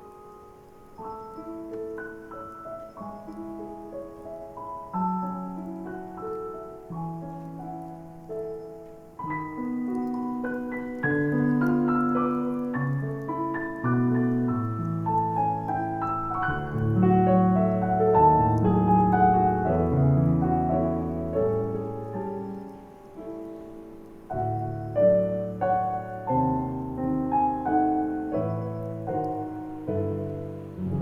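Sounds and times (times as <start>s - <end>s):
solo piano song: 0.0s - 31.0s.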